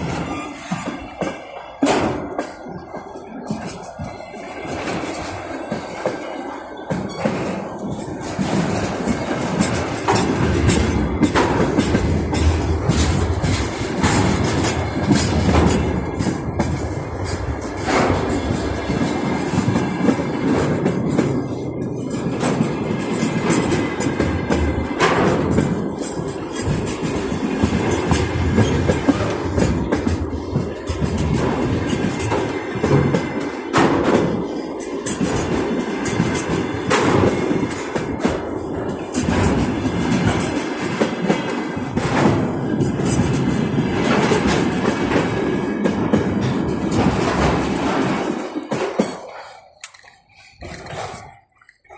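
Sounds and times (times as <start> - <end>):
train wheels rumbling on rails: 0.0 - 51.9
wheels clicking over rail joints: 0.0 - 51.9.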